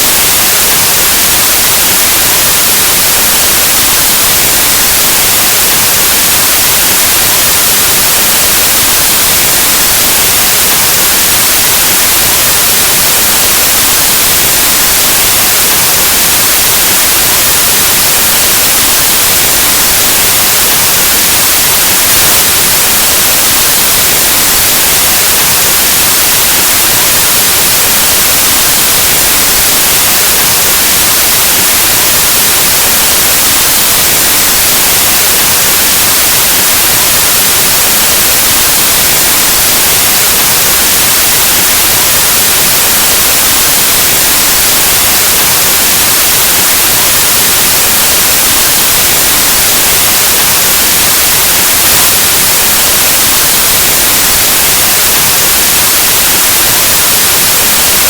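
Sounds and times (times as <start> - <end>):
loud white noise static: 0.0 - 58.0.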